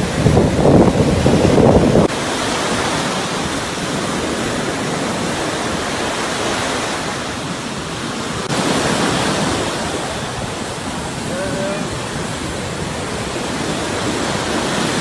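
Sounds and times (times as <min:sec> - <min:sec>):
sea surf breaking on beach: 0:00.0 - 0:15.0.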